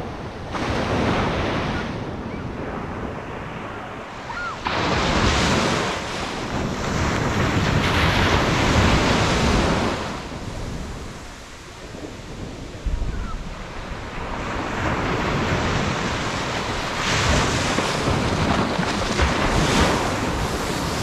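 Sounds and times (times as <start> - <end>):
waves breaking on sandy beach: 0.0 - 21.0
wind rumble on microphone: 0.0 - 21.0.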